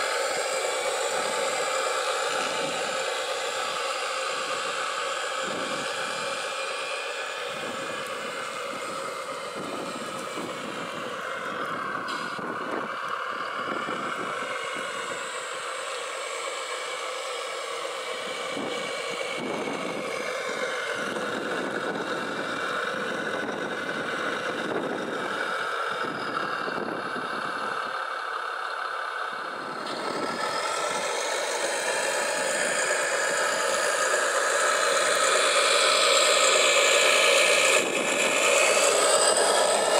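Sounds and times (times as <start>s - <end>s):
electric motors whining and whirring: 0.0s - 39.9s.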